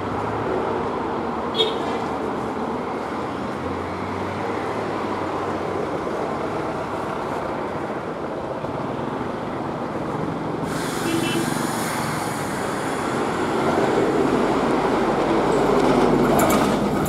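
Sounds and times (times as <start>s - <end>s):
train engine and wheels rumbling: 0.0s - 17.0s.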